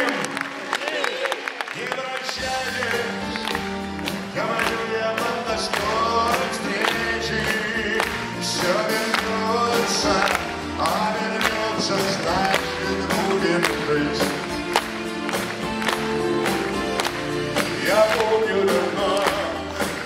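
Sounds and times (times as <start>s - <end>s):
man singing: 1.7s - 15.3s, 17.3s - 20.0s.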